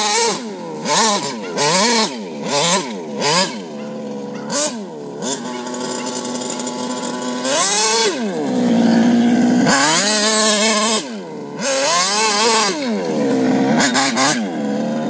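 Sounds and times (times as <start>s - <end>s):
two-stroke engine idling and revving: 0.0s - 15.0s.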